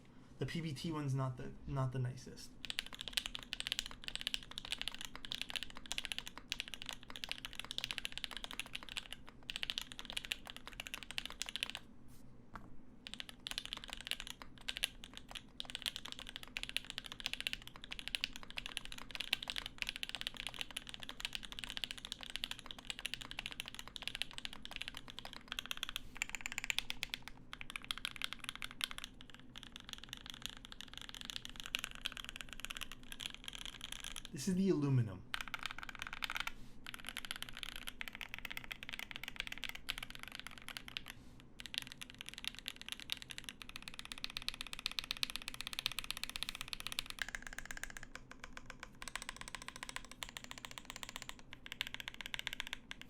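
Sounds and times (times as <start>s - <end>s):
mechanical keyboard typing: 2.6s - 11.8s, 13.0s - 53.0s.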